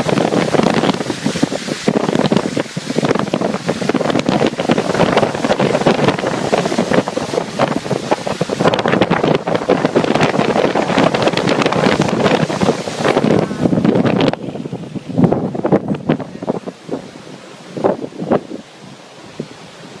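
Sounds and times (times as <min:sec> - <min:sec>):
storm wind buffeting microphone: 0:00.0 - 0:20.0.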